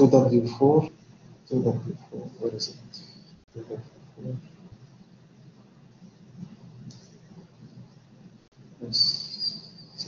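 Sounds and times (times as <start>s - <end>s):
faint low murmur: 0.0s - 10.0s
soft hiss: 0.0s - 10.0s.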